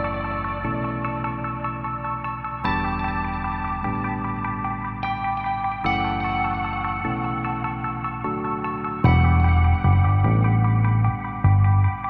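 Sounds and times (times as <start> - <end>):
sustained low chords: 0.0 - 12.0.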